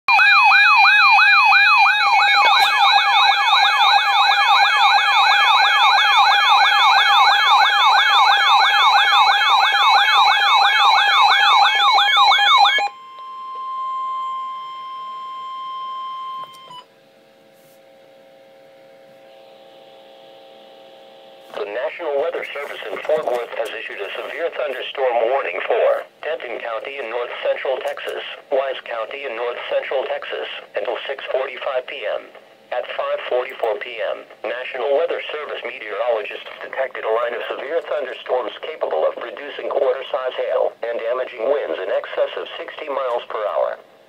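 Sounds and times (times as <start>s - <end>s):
warbling weather radio alarms: 0.1s - 16.9s, 19.2s - 43.8s.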